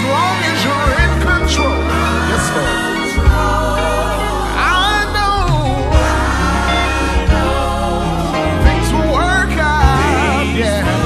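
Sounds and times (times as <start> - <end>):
gospel choir singing: 0.0 - 11.0
sustained bass notes: 0.0 - 11.0.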